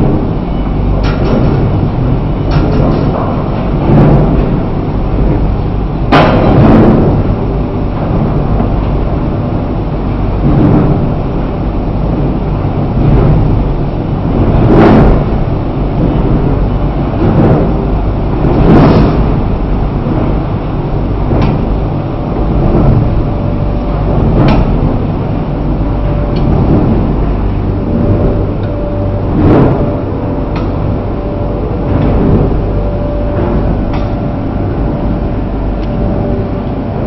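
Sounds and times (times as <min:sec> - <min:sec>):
machine low rumble: 0:00.0 - 0:37.0.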